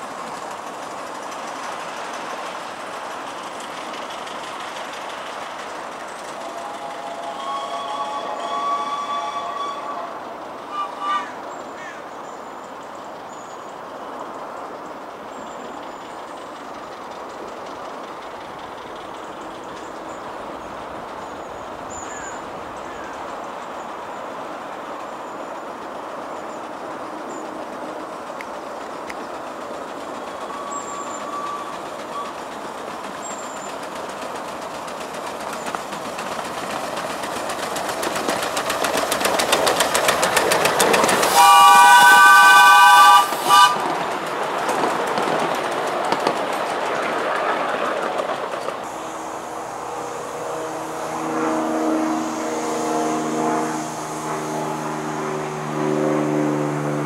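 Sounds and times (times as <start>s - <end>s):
miniature steam locomotive passing: 0.0s - 57.0s.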